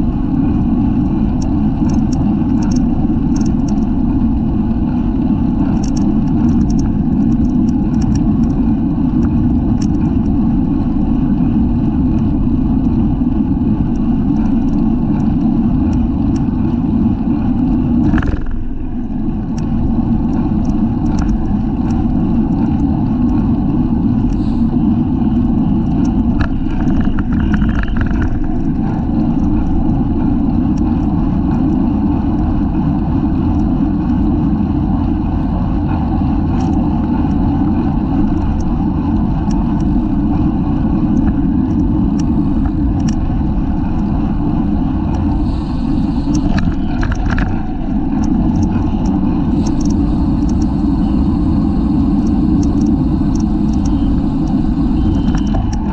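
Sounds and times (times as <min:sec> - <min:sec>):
wind rushing over microphone: 0:00.0 - 0:55.9
small clicks and rattles: 0:00.5 - 0:34.3, 0:35.8 - 0:55.9.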